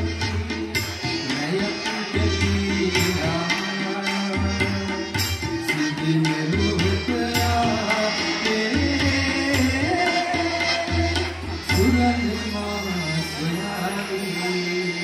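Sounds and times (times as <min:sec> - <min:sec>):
hand drums beating: 0:00.0 - 0:12.2
harmonium melody: 0:00.0 - 0:15.0.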